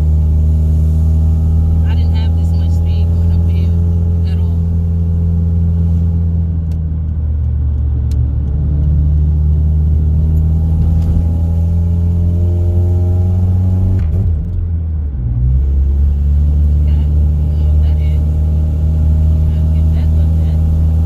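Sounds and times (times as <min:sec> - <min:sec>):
car engine droning uphill: 0:00.0 - 0:21.0.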